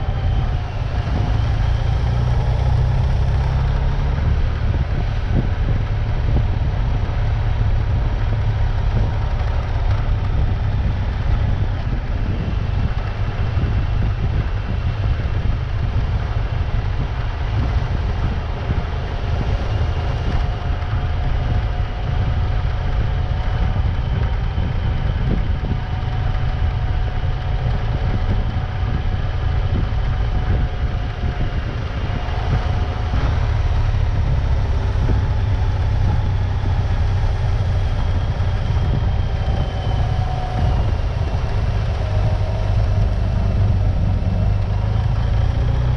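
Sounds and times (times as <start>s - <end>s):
vehicle engine rumbling: 0.0s - 45.9s.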